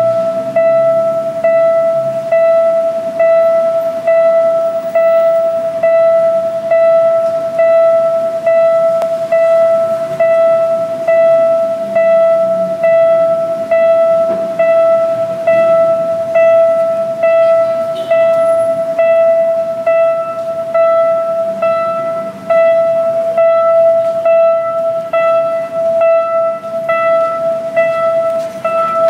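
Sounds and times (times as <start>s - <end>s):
level crossing warning bell ringing: 0.0s - 29.0s.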